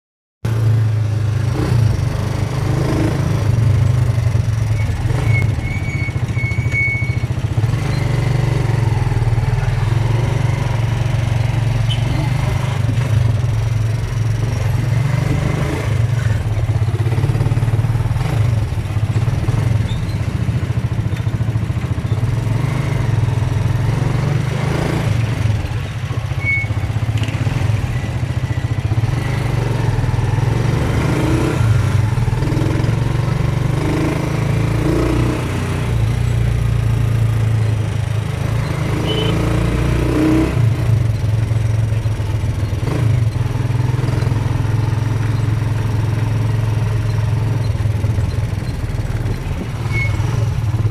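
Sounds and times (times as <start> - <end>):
motorcycle engine running: 0.5 - 50.9.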